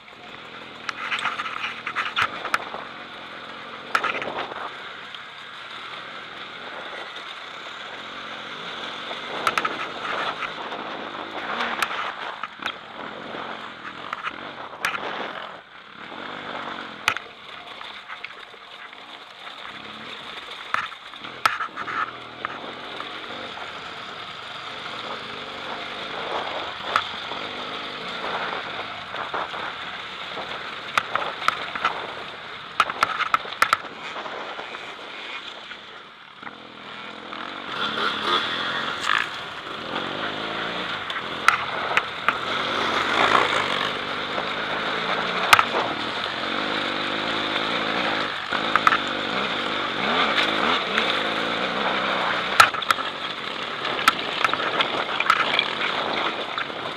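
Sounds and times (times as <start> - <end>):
motorcycle engine running hard: 0.0 - 56.9.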